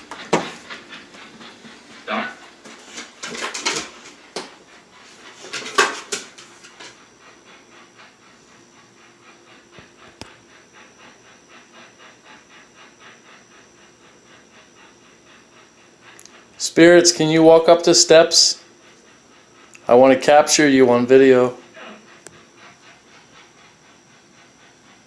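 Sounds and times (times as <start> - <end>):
dog panting: 0.0 - 25.0.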